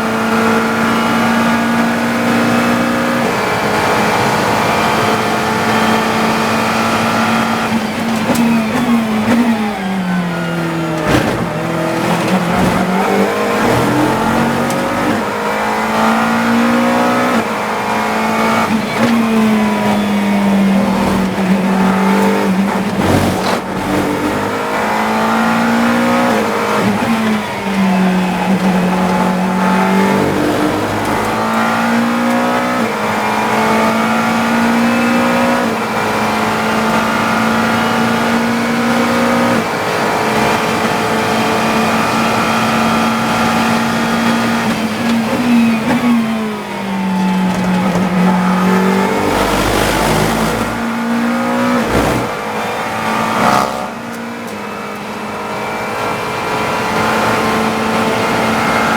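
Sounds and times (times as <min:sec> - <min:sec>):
race car engine shifting gears: 0:00.0 - 0:58.9.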